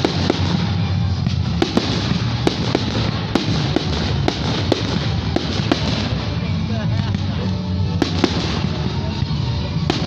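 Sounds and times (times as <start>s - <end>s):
fireworks cracks and pops: 0.0s - 10.0s
music playing: 0.0s - 10.0s.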